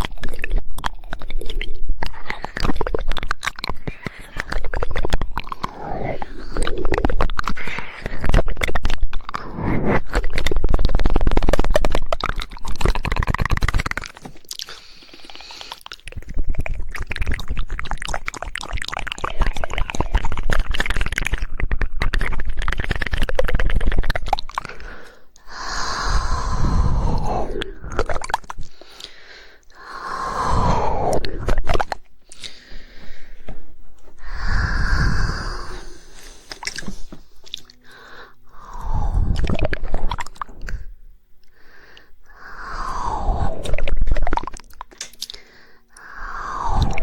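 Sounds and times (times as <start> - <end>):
rapid tongue clicking: 0.0 - 33.3, 34.2 - 47.0
wet mouth noises: 0.0 - 47.0.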